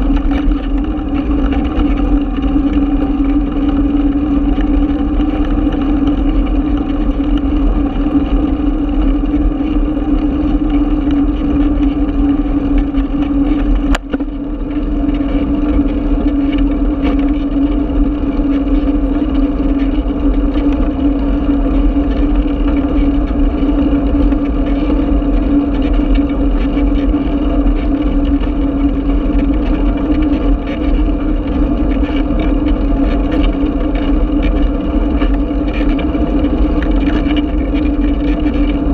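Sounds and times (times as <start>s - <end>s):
bicycle ride rumble: 0.0s - 38.9s
wind noise on microphone: 0.0s - 38.9s.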